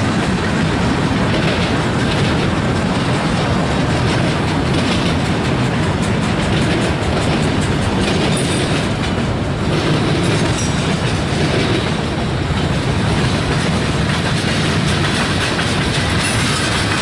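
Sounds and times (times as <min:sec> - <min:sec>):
train wheels rumbling on rails: 0:00.0 - 0:17.0
wheels clicking on rail joints: 0:00.0 - 0:17.0.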